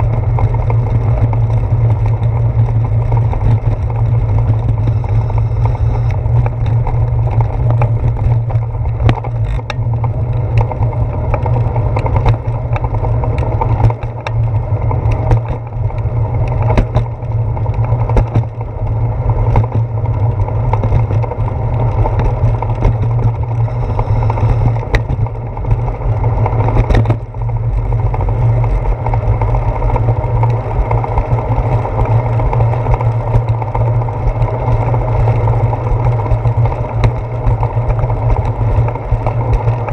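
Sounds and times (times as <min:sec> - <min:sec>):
bike knocks and rattles: 0:00.0 - 0:39.9
wind and road rumble: 0:00.0 - 0:39.9.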